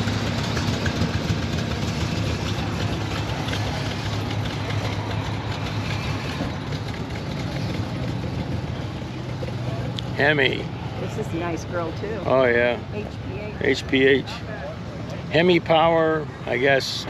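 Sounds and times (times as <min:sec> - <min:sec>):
outdoor crowd noise: 0:00.0 - 0:17.0
vehicle engine idling: 0:00.0 - 0:17.0.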